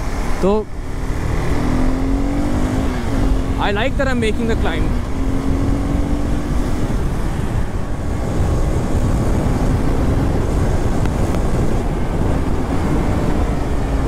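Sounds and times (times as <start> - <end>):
motorcycle engine cruising: 0.0 - 14.0
wind buffeting microphone: 0.0 - 14.0.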